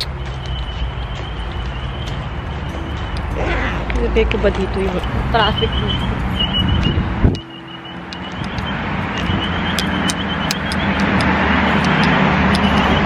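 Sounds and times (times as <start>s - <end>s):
wind on microphone: 0.0s - 7.5s, 8.2s - 13.0s
passing cars: 0.0s - 13.0s.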